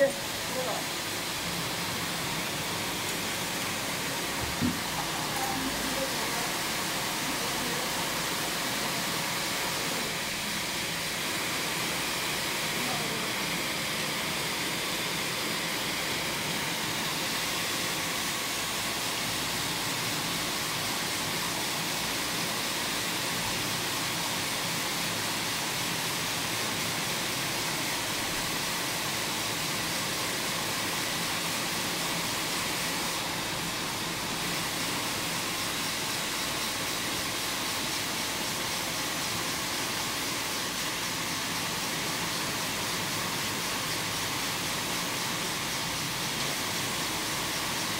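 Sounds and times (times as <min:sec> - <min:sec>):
knitting machinery running: 0:00.0 - 0:47.9.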